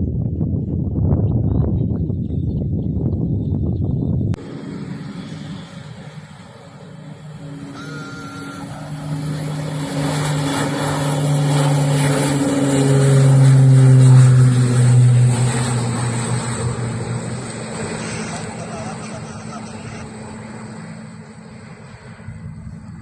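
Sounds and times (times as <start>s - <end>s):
turboprop airplane flying past: 0.0s - 23.0s.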